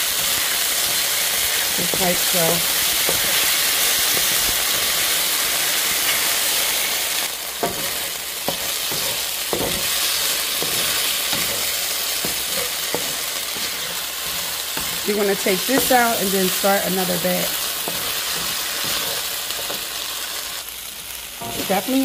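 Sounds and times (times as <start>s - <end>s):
meat sizzling in a wok: 0.0s - 22.0s
spatula scraping meat: 0.1s - 6.9s, 7.6s - 20.0s
spatula knocking wok: 0.2s - 5.2s, 7.6s - 20.0s, 21.4s - 21.9s.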